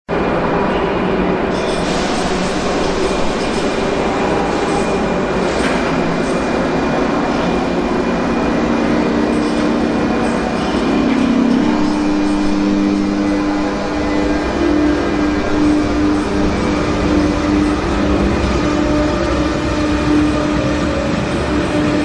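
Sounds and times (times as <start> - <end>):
electric locomotive whine: 0.1 - 22.0
train rumble: 0.1 - 22.0.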